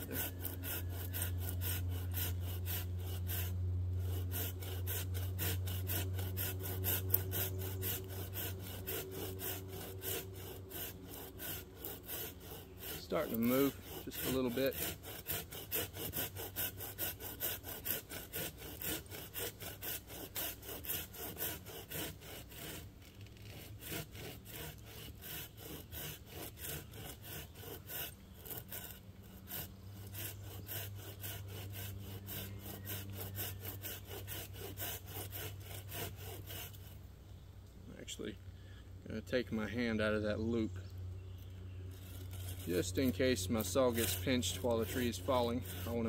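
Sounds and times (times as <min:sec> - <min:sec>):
hand saw cutting wood: 0:00.0 - 0:37.0, 0:41.9 - 0:46.0.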